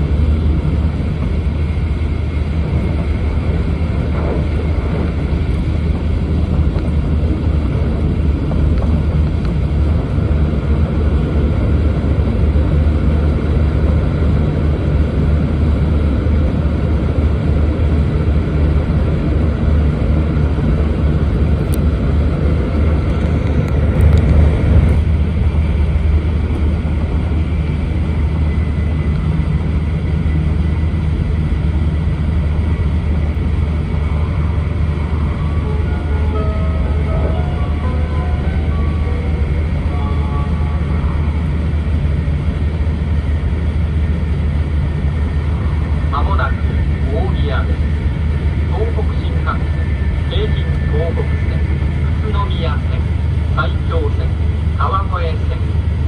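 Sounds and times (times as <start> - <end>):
train running noise inside car: 0.0 - 56.0.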